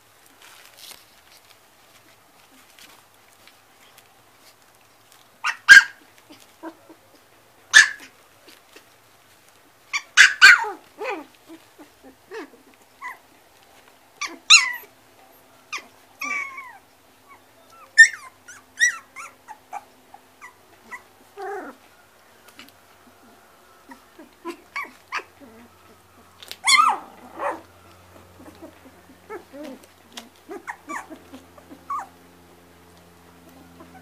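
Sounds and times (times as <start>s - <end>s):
puppies yipping and squealing: 0.8s - 34.0s.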